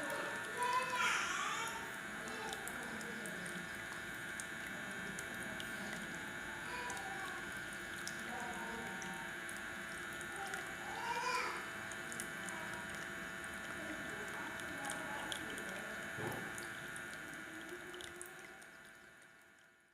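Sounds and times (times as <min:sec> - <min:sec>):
tabletop fountain trickling: 0:00.0 - 0:19.9.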